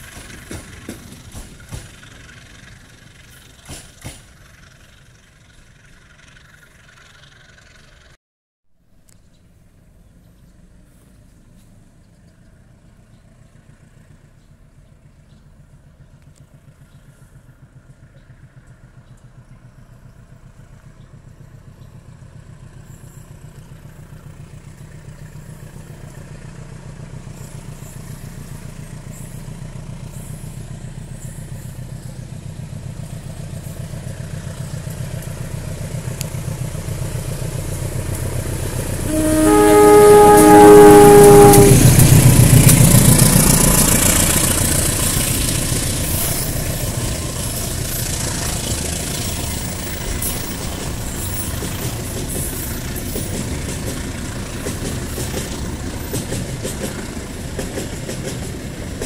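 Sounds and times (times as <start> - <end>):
diesel locomotive engine throbbing: 0.0 - 8.1, 9.8 - 59.0.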